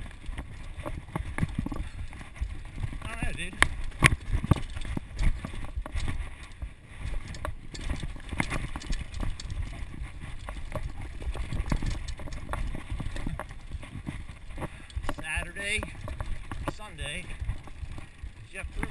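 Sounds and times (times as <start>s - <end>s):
mountain bike clattering over rocks: 0.0s - 18.9s.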